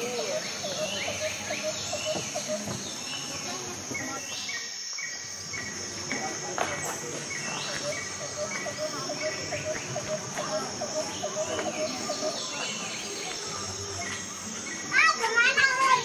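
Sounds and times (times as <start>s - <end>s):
birds calling: 0.0s - 16.0s
insects buzzing: 0.0s - 16.0s.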